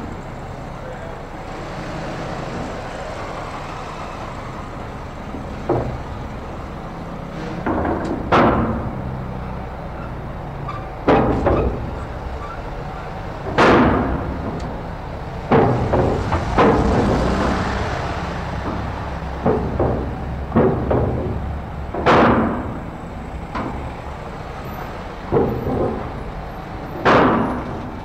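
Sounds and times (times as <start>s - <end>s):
heavy clanks and thumps: 0.0s - 28.0s
low rumble of ship: 2.5s - 28.0s.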